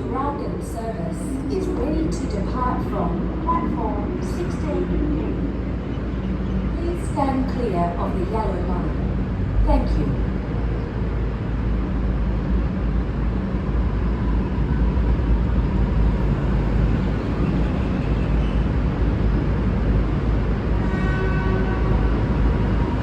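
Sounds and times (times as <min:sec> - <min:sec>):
diesel train engines rumbling: 0:00.0 - 0:23.0.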